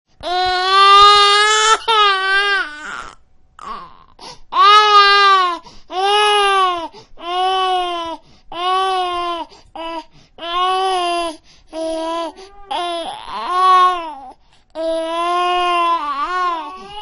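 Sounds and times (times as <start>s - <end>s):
newborn baby crying: 0.2s - 17.0s.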